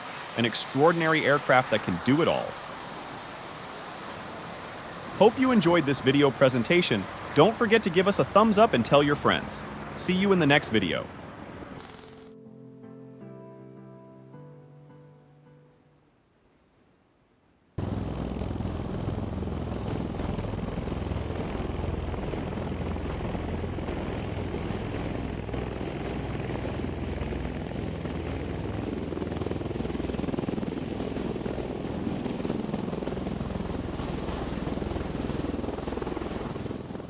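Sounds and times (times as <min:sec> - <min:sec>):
aircraft rotors and engines hovering: 0:00.0 - 0:12.0, 0:17.8 - 0:37.0.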